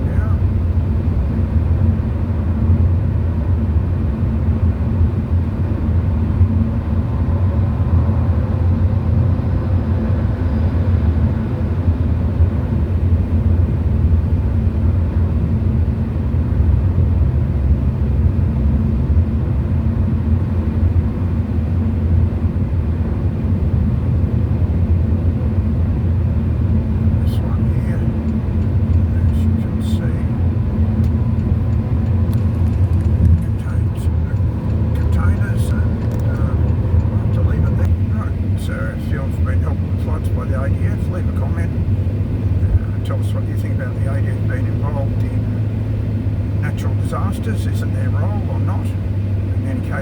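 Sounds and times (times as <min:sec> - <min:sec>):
car cabin road rumble: 0:00.0 - 0:50.0.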